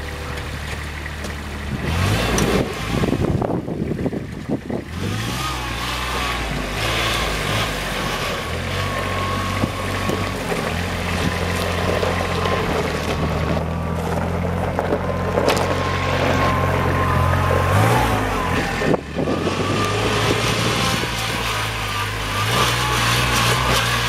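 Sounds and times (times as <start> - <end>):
utility vehicle engine running: 0.0 - 24.0.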